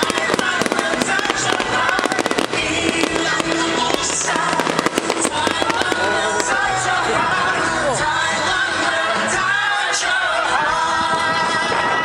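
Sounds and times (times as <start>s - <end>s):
fireworks crackling and popping: 0.0s - 12.0s
loud show music: 0.0s - 12.0s.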